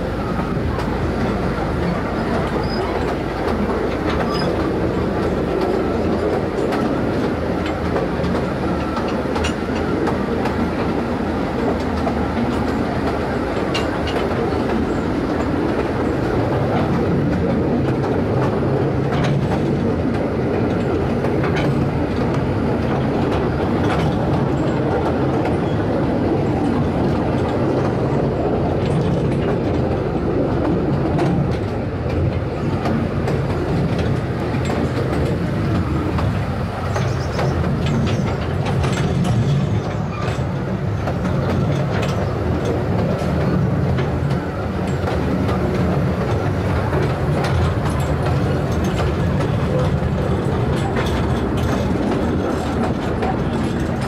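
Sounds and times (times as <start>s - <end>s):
rail clacks: 0.0s - 54.0s
train motor and wheels rumbling: 0.0s - 54.0s.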